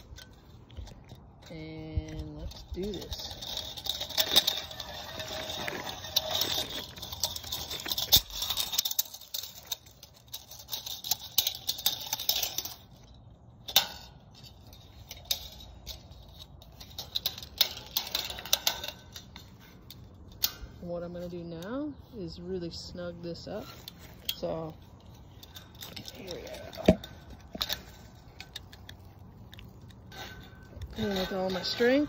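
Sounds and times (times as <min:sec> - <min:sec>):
steel wire unreeling from spool: 0:00.0 - 0:32.0.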